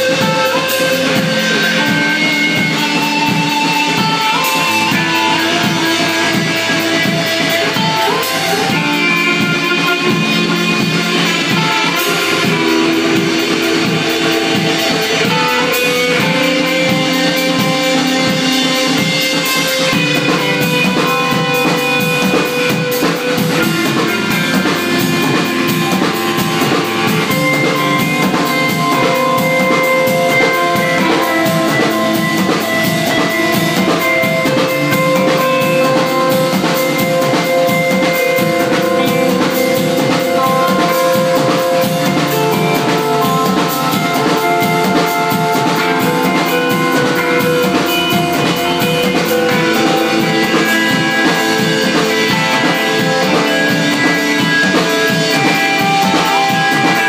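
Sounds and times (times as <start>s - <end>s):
drum kit playing: 0.0s - 57.0s
ringing electric guitars: 0.0s - 57.0s.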